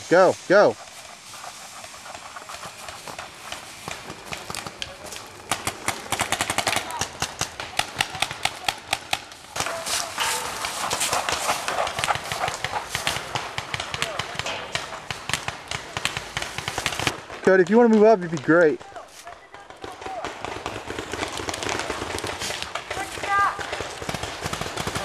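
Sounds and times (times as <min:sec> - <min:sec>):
paintball markers firing: 0:01.7 - 0:25.0.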